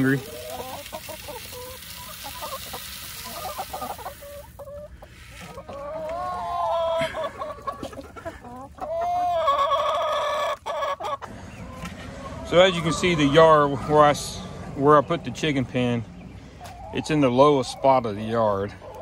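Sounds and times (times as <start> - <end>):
chicken drawn-out calls: 0.0 - 19.0
chickens clucking: 0.0 - 19.0.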